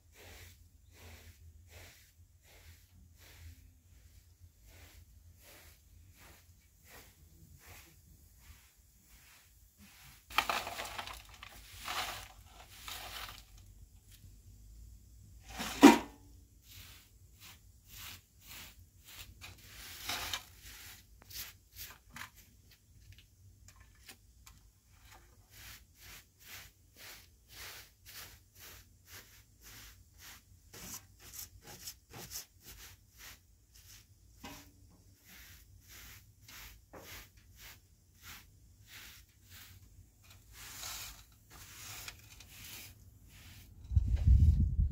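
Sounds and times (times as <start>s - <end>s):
straw broom sweeping a rug: 0.0s - 22.9s, 23.9s - 44.9s.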